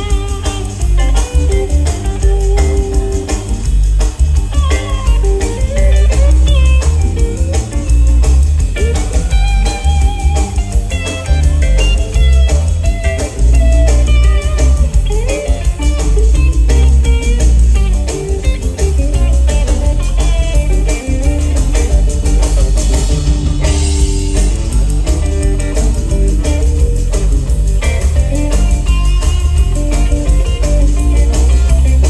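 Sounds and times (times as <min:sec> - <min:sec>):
electric guitar melody: 0:00.0 - 0:32.0
live rock band playing: 0:00.0 - 0:32.0.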